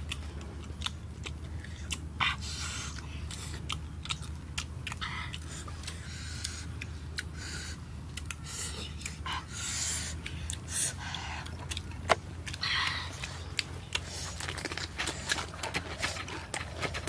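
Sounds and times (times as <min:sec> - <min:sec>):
crunching fried food: 0:00.0 - 0:09.3, 0:10.1 - 0:17.0
chewing with wet mouth clicks: 0:00.0 - 0:17.0.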